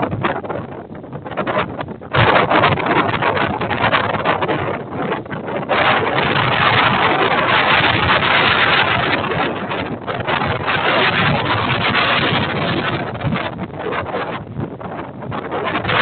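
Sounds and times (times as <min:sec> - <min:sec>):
wind gusts buffeting microphone: 0:00.0 - 0:16.0.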